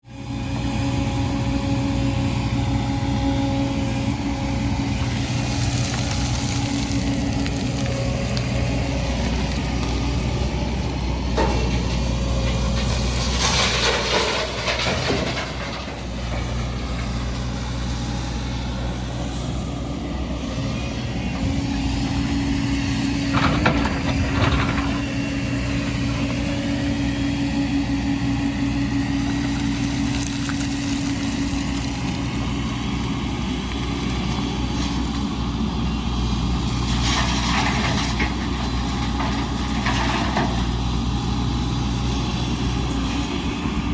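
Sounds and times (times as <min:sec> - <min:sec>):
heavy machinery droning: 0:00.0 - 0:43.9.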